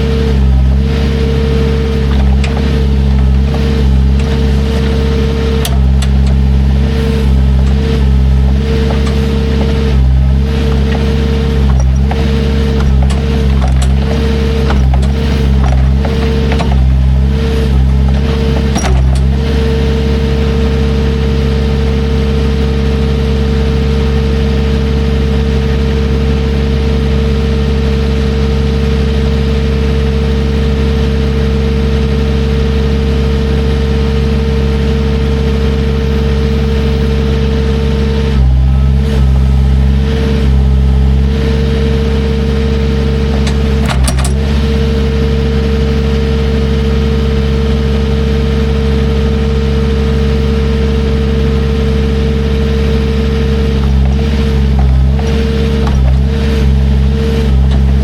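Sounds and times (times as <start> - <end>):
constant whine: 0.0 - 58.0
heavy equipment engine running: 0.0 - 58.0.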